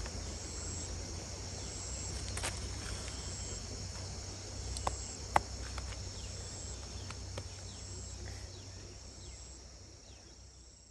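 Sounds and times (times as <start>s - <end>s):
crickets and insects calling: 0.0s - 10.9s
high insect call: 0.0s - 10.9s.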